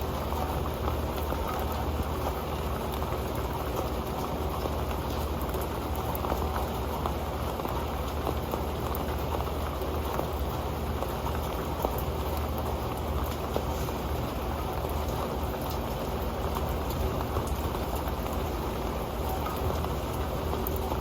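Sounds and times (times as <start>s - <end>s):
rain ticking on a metal pan: 0.0s - 21.0s.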